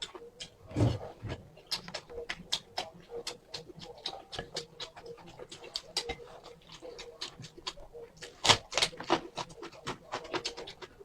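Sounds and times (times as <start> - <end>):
chewing and slurping noodles: 0.0 - 11.0.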